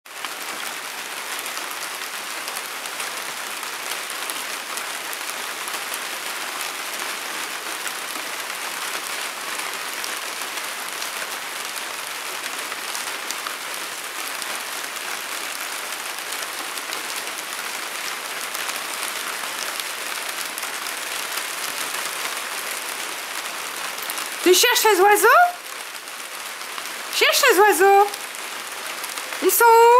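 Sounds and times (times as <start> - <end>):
steady rain falling: 0.1 - 29.9.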